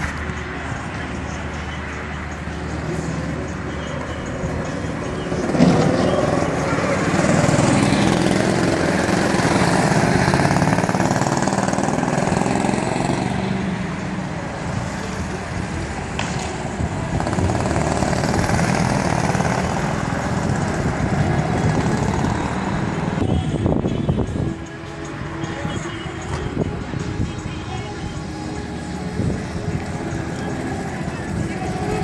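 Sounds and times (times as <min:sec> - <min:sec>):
go-kart engines: 0:00.0 - 0:32.0.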